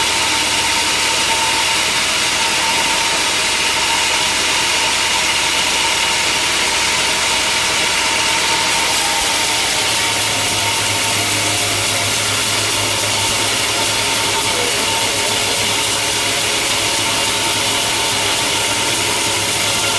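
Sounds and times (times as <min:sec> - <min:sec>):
deep hum: 0:00.0 - 0:19.9
saw cutting wood: 0:00.0 - 0:19.9
sawmill machinery running: 0:00.0 - 0:19.9.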